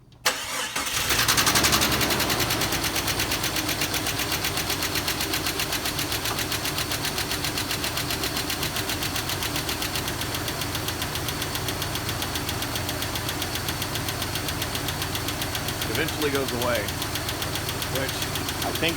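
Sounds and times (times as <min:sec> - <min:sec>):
car engine starting and idling: 0:00.1 - 0:18.9
engine lifter ticking: 0:00.3 - 0:18.9.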